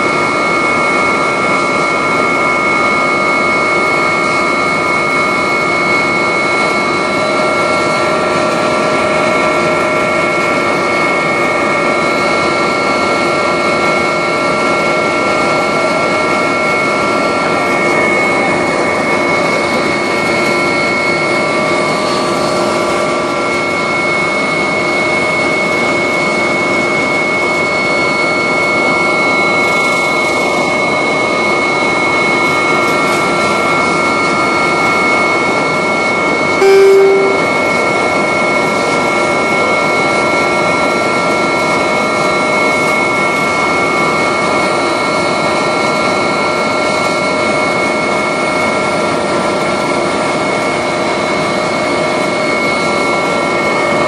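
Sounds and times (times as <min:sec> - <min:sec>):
helicopter engines and rotors: 0:00.0 - 0:54.0.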